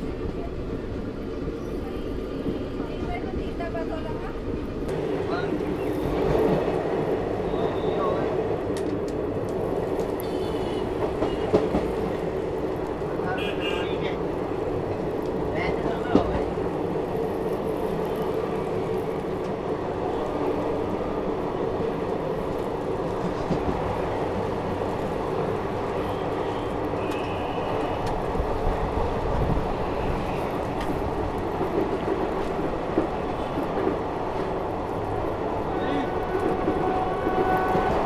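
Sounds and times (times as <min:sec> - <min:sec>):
train rumbling along track: 0:00.0 - 0:38.0.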